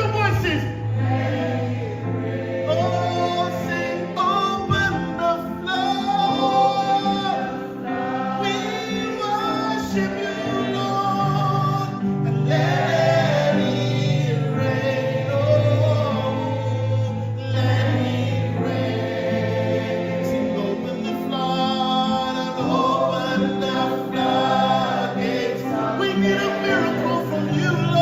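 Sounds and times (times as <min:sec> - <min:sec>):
choir singing gospel song: 0:00.0 - 0:28.0.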